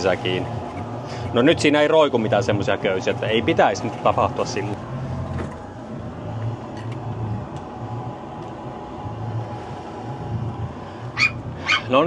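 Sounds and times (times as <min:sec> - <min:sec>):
marine diesel engine throbbing: 0:00.0 - 0:12.0.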